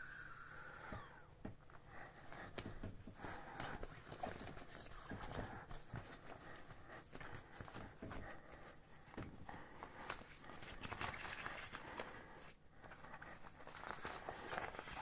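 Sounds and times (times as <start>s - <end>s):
plastic crinkling and rustling: 2.6s - 15.0s.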